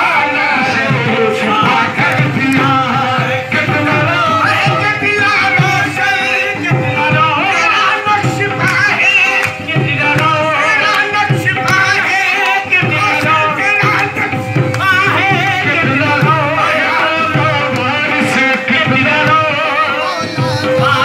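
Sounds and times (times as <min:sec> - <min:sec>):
voices singing ornamented melody: 0:00.0 - 0:21.0
hand drum beats: 0:00.6 - 0:21.0.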